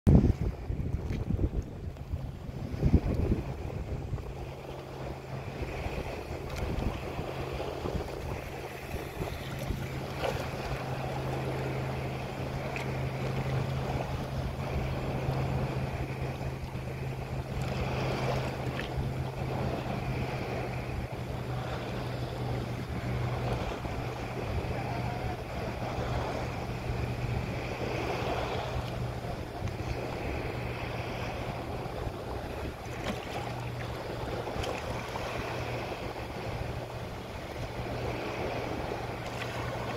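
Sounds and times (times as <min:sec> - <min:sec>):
boat engine hum: 0:00.1 - 0:39.9
water rushing along hull: 0:00.1 - 0:39.9
wind buffeting microphone: 0:00.1 - 0:39.9.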